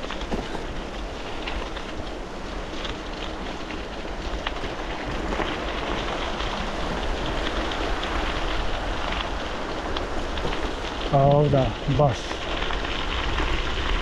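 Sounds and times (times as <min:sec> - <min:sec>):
bicycle tyres crunching on gravel: 0:00.0 - 0:14.0
pebbles ticking: 0:00.0 - 0:14.0
wind rumbling on microphone: 0:00.0 - 0:14.0.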